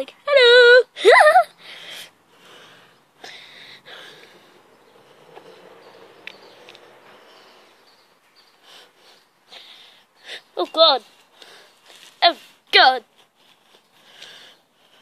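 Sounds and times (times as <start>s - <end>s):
faint outdoor background noise: 0.0s - 15.0s
breaths close to microphone: 1.6s - 15.0s.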